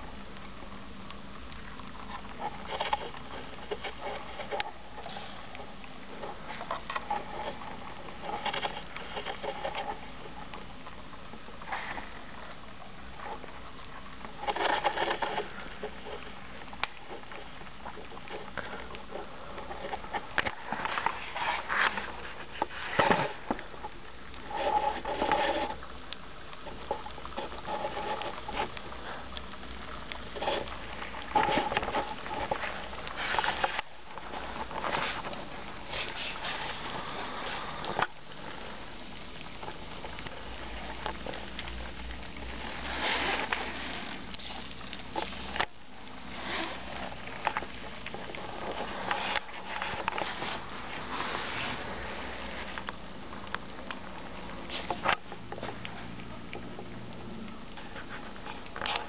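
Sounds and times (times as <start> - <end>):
room hiss: 0.0 - 59.0
rustles and clicks: 0.0 - 59.0.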